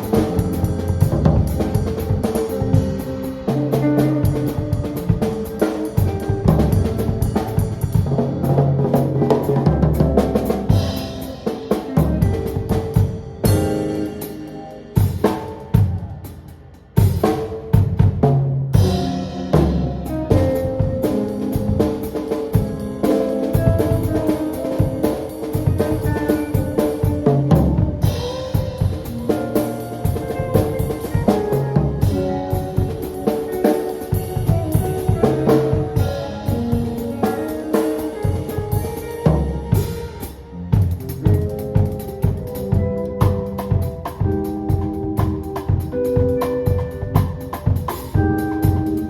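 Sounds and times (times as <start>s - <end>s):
band playing instrumental: 0.0s - 49.0s
drum kit beat: 0.0s - 49.0s.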